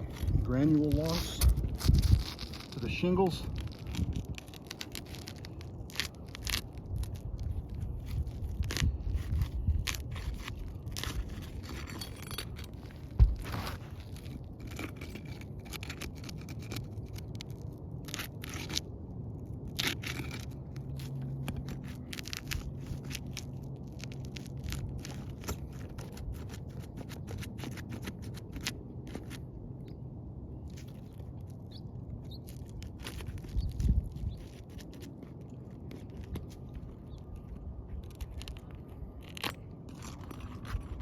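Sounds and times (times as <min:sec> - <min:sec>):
pry bar scraping shingles: 0:00.0 - 0:19.0, 0:19.6 - 0:29.6, 0:30.7 - 0:41.0.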